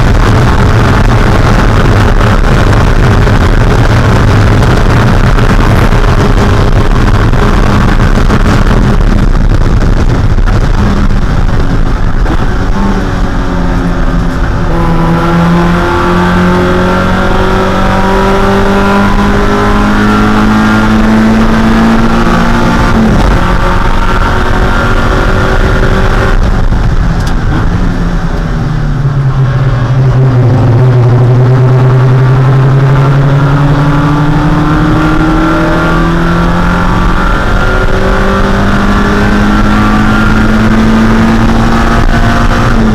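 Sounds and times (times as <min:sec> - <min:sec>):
race car engine pulling hard: 0:00.0 - 0:42.9
wind and road noise: 0:00.0 - 0:42.9.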